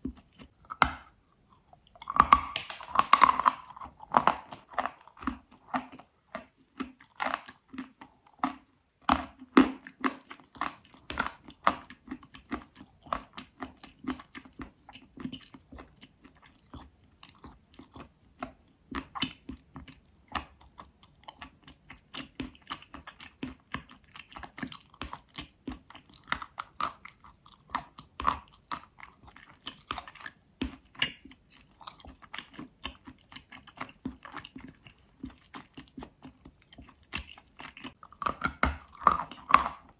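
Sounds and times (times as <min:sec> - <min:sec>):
chalk being chewed: 0:00.0 - 0:39.9.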